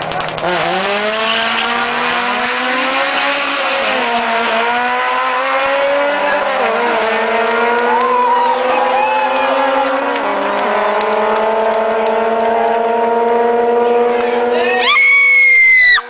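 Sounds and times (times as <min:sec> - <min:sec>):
race cars accelerating hard: 0:00.0 - 0:16.0.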